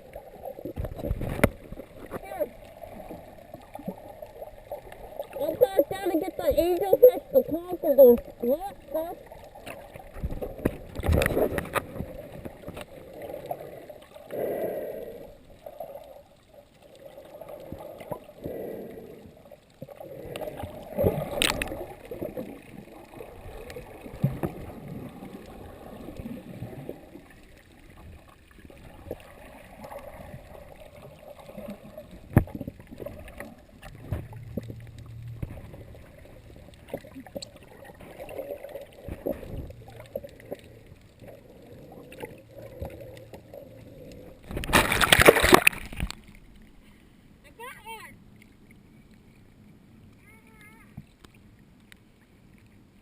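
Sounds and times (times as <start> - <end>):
water sloshing and gurgling: 0.0 - 53.0.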